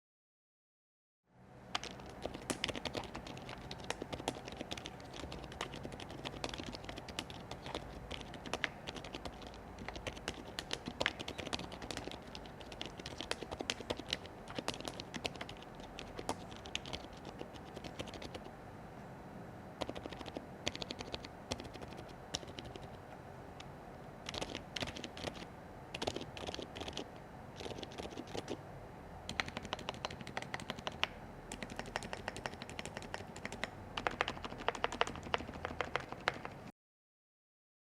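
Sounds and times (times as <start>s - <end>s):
mechanical keyboard typing: 1.8s - 18.5s, 19.8s - 23.0s, 24.2s - 28.6s, 29.3s - 36.7s.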